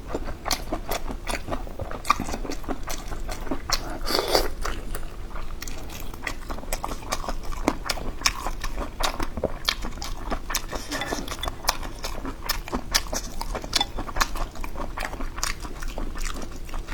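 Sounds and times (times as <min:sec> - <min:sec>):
close-up chewing and biting: 0:00.0 - 0:16.9.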